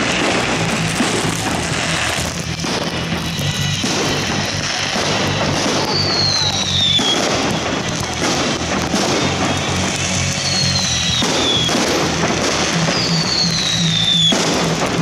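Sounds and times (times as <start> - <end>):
fireworks bursting and crackling: 0.0 - 15.0
music with steady bass line: 0.0 - 15.0.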